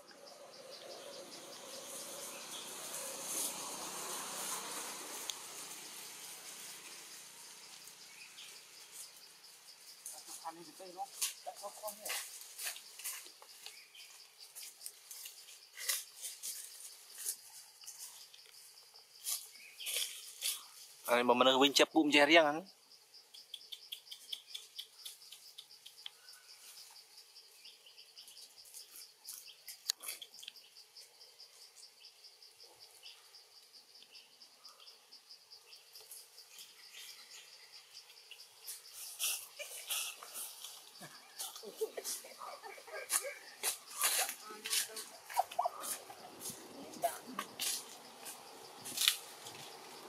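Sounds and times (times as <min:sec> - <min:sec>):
insect chirping: 0:00.0 - 0:50.0
leaves and twigs rustling: 0:00.7 - 0:21.3, 0:26.2 - 0:32.1, 0:35.7 - 0:50.0.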